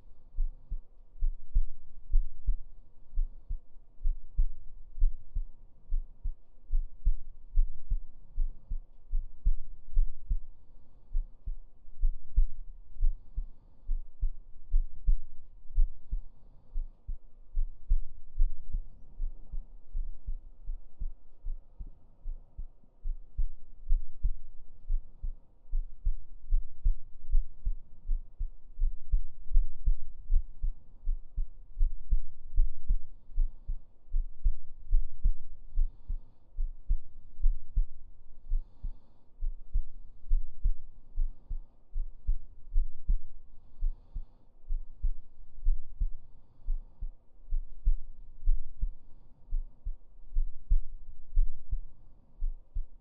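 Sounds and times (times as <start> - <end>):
heartbeat thumps: 0.0 - 53.0.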